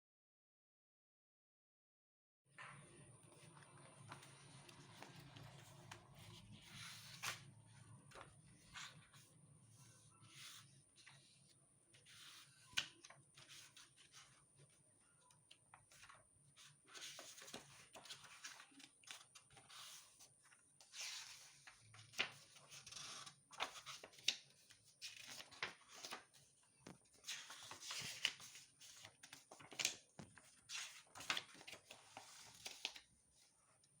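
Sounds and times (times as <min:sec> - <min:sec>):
book pages rustling and turning: 0:02.7 - 0:14.8, 0:15.4 - 0:33.8.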